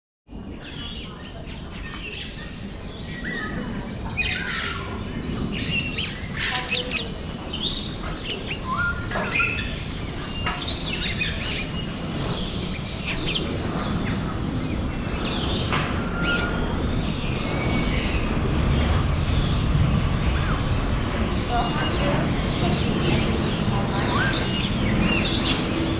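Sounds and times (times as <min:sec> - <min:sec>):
birds chirping and whistling: 0:00.6 - 0:25.9.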